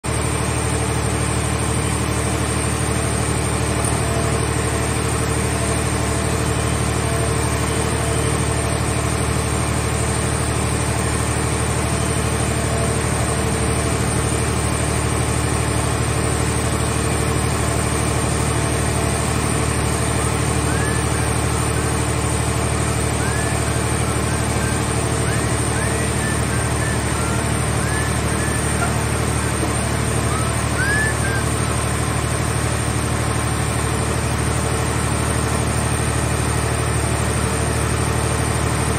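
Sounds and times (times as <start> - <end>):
low machine drone: 0.0 - 38.9.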